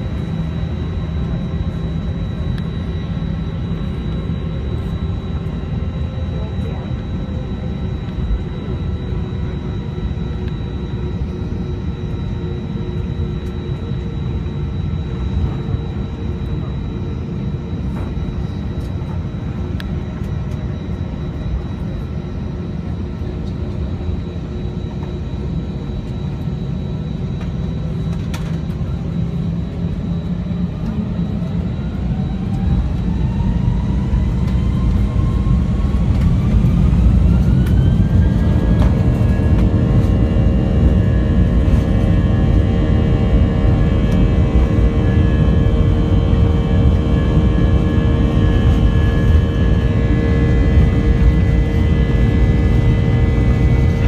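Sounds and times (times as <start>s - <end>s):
jet engines heard from cabin: 0.0s - 54.0s.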